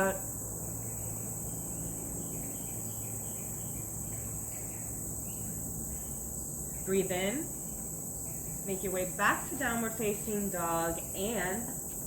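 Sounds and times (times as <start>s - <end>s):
insects droning shrilly: 0.0s - 12.0s.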